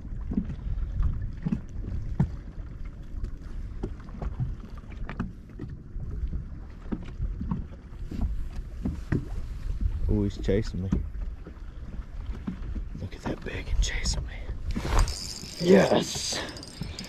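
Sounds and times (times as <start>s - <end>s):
waves lapping against boat hull: 0.0s - 17.0s
wind rumble on microphone: 0.0s - 17.0s.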